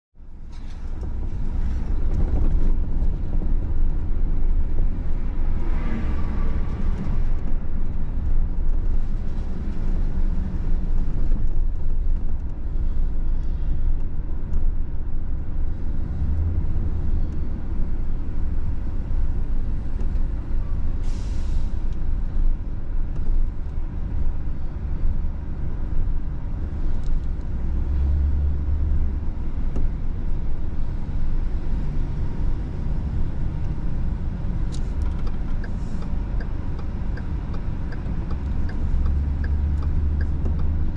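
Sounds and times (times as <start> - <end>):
road traffic rumble: 0.2 - 40.9.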